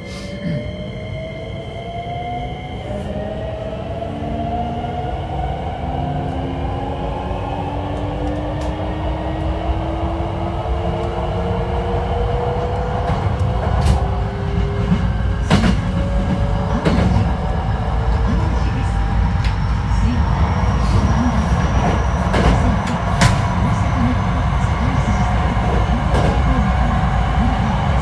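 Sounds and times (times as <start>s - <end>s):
wheels rumbling on rail: 2.8s - 28.0s.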